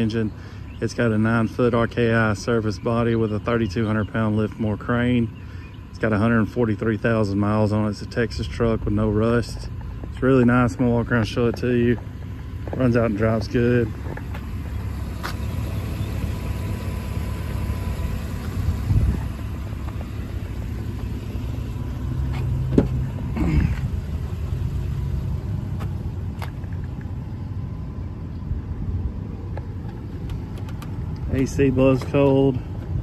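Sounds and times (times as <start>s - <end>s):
truck engine running: 0.0s - 33.0s.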